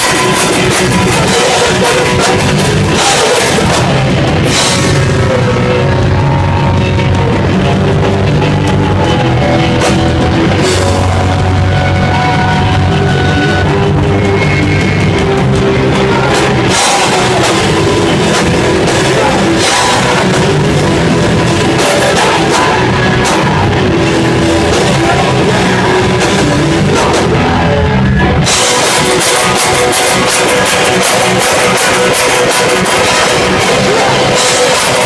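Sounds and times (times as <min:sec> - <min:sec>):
bass guitar: 0:00.0 - 0:35.0
distorted guitar: 0:00.0 - 0:35.0
drum kit: 0:00.0 - 0:35.0.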